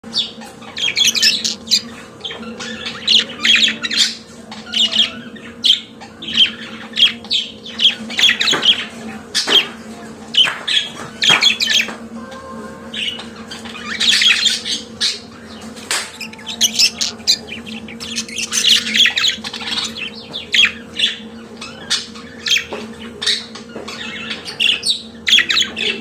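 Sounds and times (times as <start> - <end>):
budgerigar chattering warble: 0.1 - 9.6, 12.9 - 26.0.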